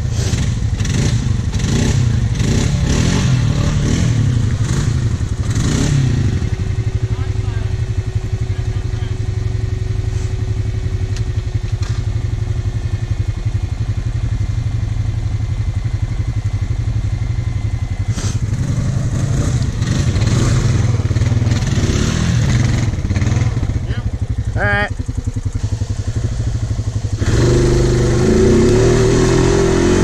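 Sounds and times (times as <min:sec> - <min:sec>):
atv engine revving: 0:00.0 - 0:30.0.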